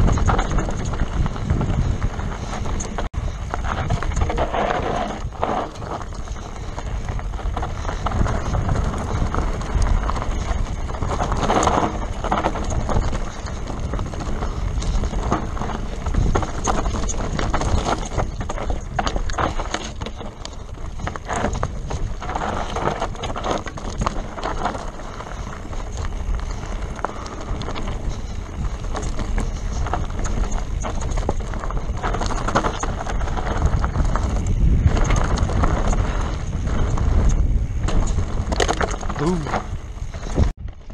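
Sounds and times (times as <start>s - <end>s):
bike knocking on rocks: 0.0s - 40.9s
bike rattling: 0.0s - 40.9s
tyres crunching over loose stones: 0.0s - 40.9s
wind buffeting microphone: 0.0s - 40.9s.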